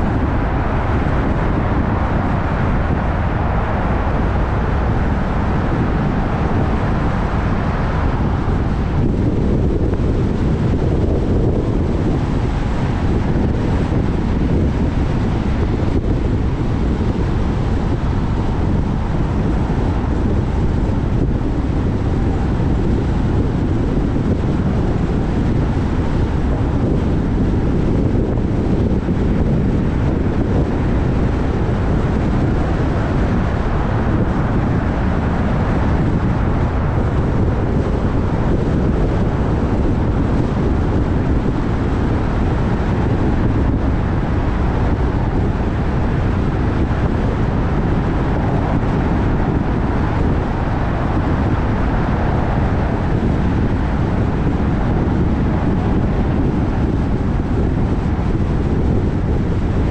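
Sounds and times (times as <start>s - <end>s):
vehicle rumble: 0.0s - 59.9s
wind noise: 0.0s - 59.9s.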